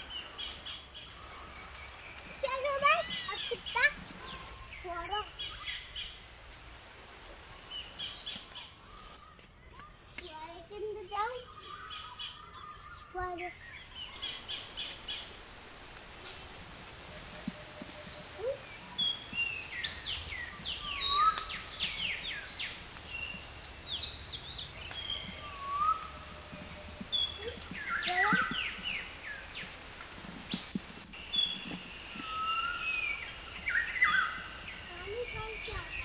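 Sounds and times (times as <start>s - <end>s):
birds chirping and calling: 0.0s - 6.3s, 7.6s - 36.0s.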